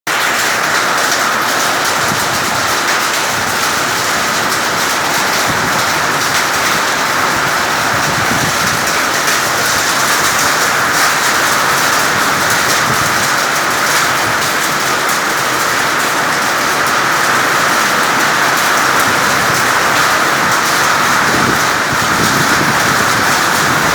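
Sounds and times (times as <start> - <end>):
heavy rain falling: 0.1 - 23.9.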